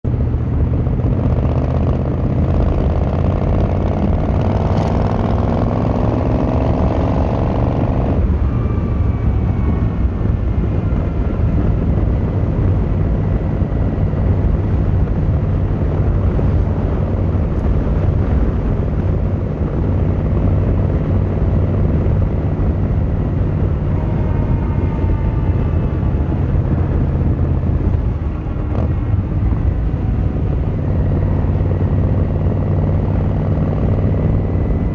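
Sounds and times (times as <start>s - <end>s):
motorcycle engine and exhaust: 0.0s - 34.9s.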